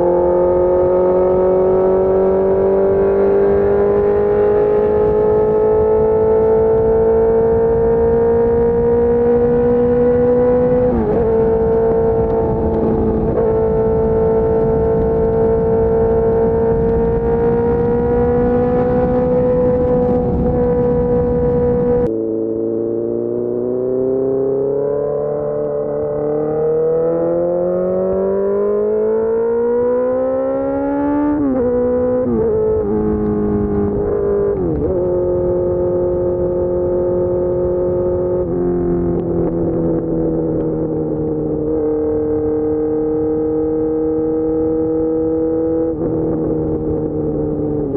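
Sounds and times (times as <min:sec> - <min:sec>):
motorcycle engine rising in pitch: 0:00.0 - 0:47.9.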